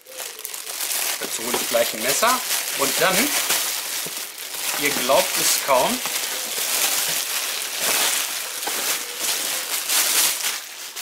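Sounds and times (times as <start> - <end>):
cellophane crinkling: 0.0 - 11.0.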